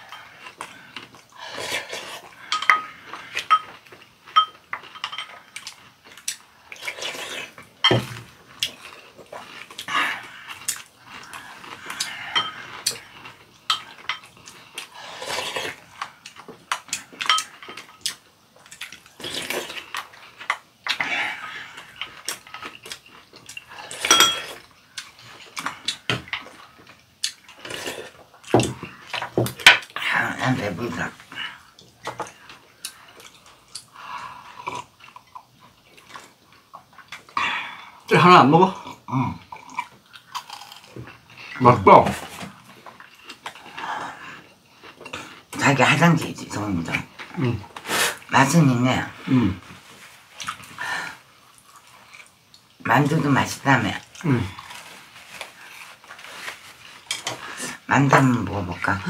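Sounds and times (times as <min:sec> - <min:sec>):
chewing and slurping: 0:00.0 - 0:30.1, 0:31.1 - 0:38.0, 0:42.2 - 0:45.5, 0:49.1 - 0:52.8, 0:54.0 - 0:57.9.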